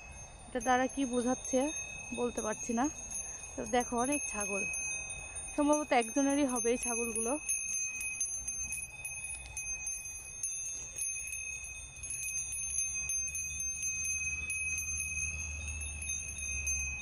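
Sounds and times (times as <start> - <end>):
goat neck bells ringing: 0.0 - 17.0.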